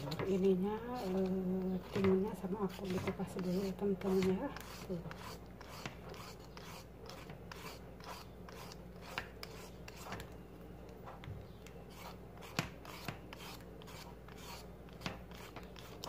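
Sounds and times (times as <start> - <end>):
peeler scraping cucumber skin: 0.0 - 10.3, 11.9 - 16.0.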